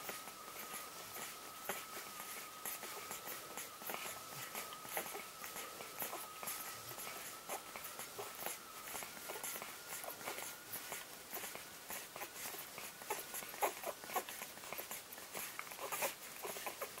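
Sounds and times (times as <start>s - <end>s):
puppies suckling wet clicks: 0.0s - 17.0s.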